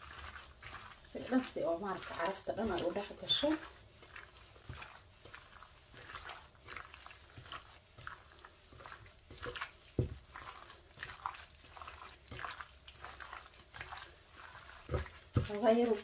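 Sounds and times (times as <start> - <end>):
wet squelches of raw chicken: 0.0 - 16.0.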